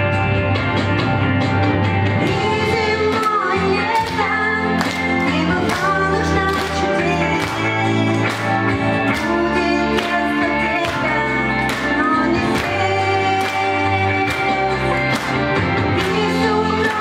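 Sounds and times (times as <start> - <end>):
backing track with steady beat: 0.0 - 17.0
woman singing into a microphone: 2.2 - 17.0.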